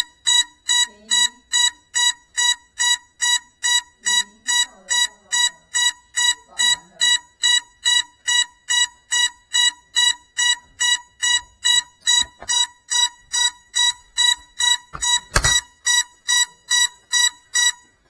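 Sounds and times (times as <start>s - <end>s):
short electronic beeps: 0.0s - 17.9s.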